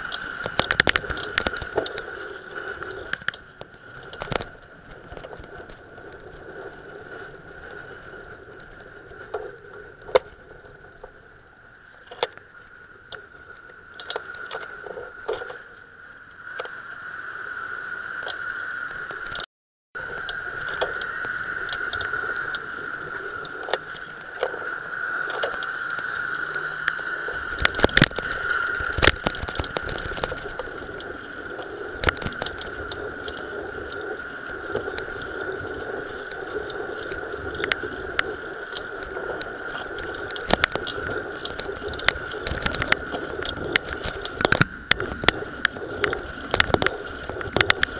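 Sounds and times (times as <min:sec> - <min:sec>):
constant high hum: 0:00.0 - 0:47.9
road and wind noise: 0:00.0 - 0:47.9.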